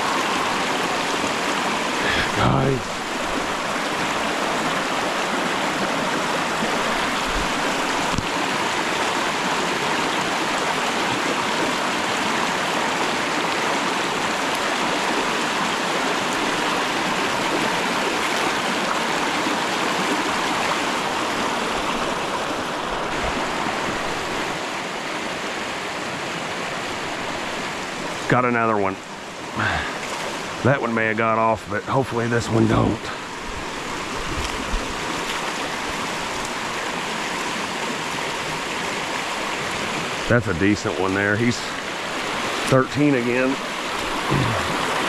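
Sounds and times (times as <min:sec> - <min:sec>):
creek rushing over rocks: 0:00.0 - 0:45.0.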